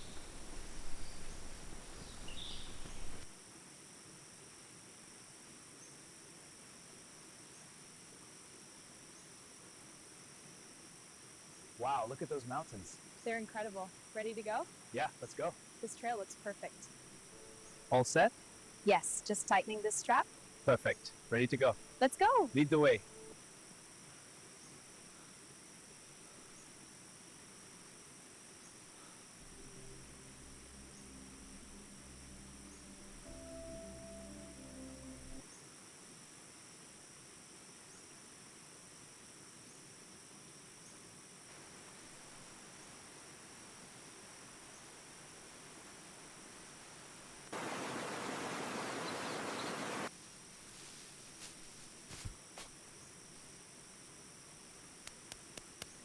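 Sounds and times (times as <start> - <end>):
crickets chirring: 0.0 - 3.4, 8.8 - 35.8, 41.4 - 56.0
low soft hum with held tones: 0.0 - 40.0, 41.2 - 55.3
insect chorus: 0.0 - 56.0.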